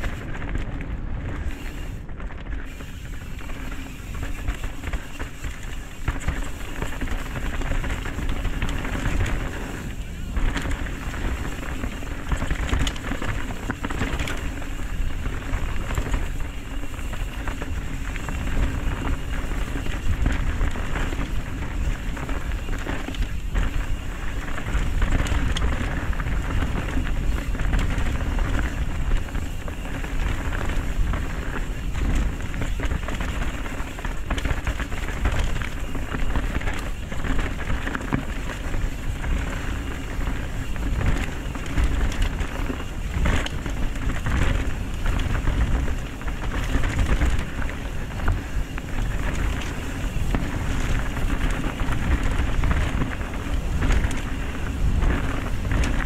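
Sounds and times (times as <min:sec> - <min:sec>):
bike rattling over bumps: 0:00.0 - 0:56.0
bike tyres on dirt: 0:00.0 - 0:56.0
wind rumbling on microphone: 0:00.0 - 0:56.0.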